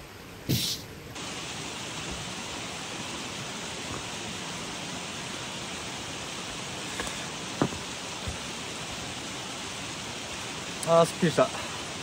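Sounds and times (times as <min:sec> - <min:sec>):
mountain stream rushing: 0:01.1 - 0:12.0.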